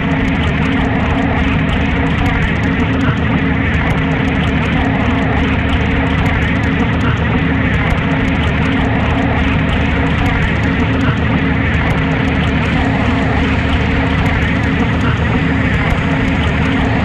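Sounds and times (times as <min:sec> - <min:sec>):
dense noise drone: 0:00.0 - 0:17.0
fine crackling ticks: 0:00.0 - 0:17.0
low hum: 0:00.0 - 0:17.0.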